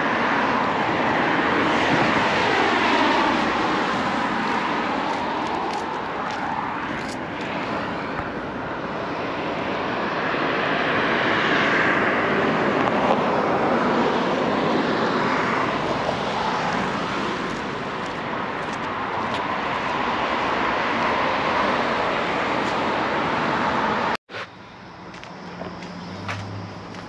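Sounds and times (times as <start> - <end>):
passing vehicles rushing: 0.0 - 27.0.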